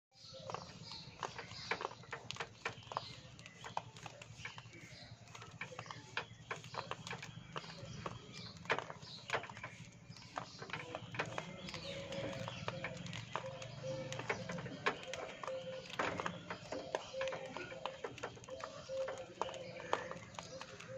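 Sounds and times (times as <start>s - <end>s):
birds crunching biscuit: 0.2s - 20.9s.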